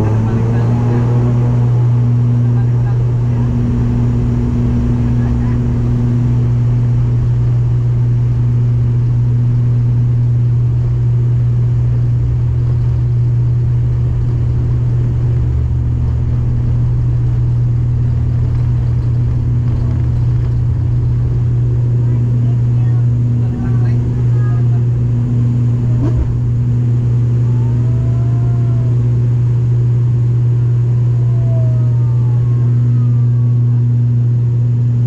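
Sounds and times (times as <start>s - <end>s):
propeller drone: 0.0s - 35.0s.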